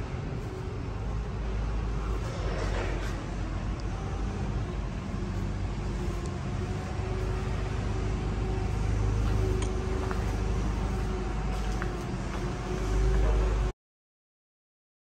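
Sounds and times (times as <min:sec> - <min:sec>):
low rumble of shop noise: 0:00.0 - 0:13.7.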